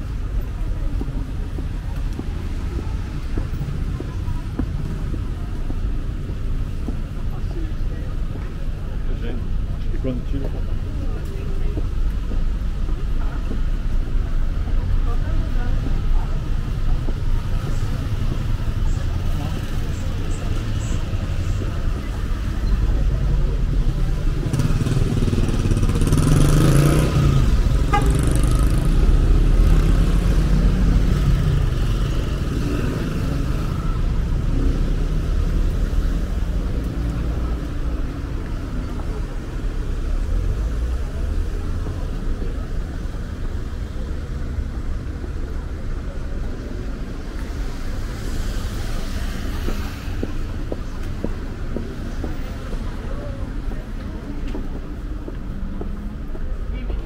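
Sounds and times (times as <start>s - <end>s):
traffic engine rumble: 0.0s - 57.0s.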